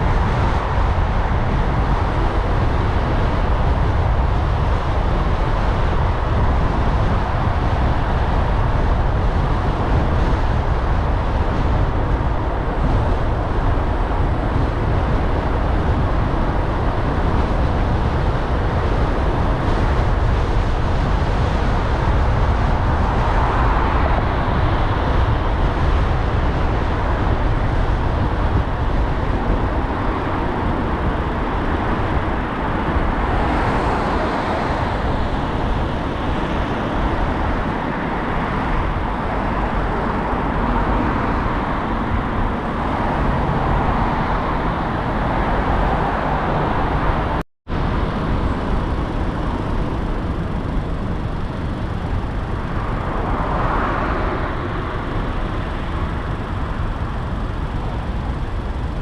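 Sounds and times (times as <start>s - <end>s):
car driving in traffic: 0.0s - 59.0s.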